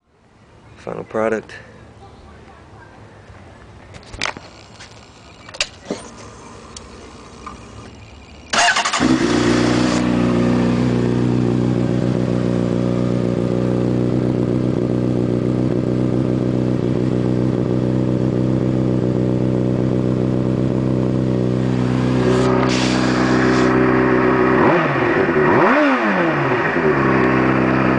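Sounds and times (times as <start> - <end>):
motorcycle engine idling and revving: 3.0 - 27.9.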